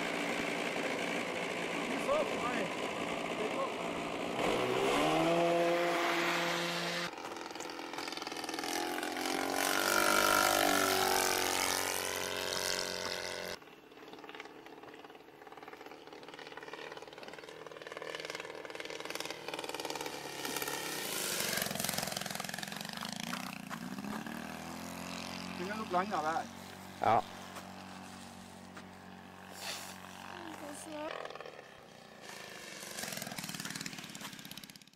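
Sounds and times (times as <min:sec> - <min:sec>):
model plane engine passing: 0:00.0 - 0:34.9.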